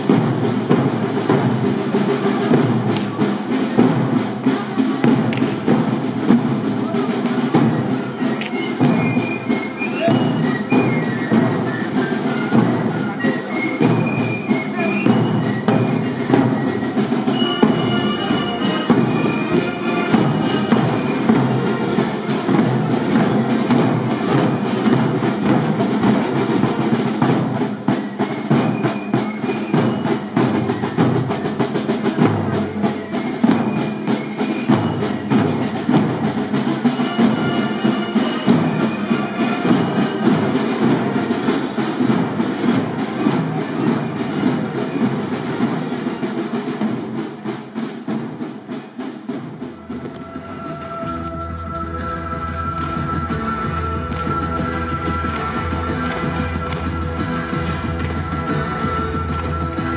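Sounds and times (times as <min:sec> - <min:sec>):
background music with percussive beat: 0:00.0 - 0:59.9.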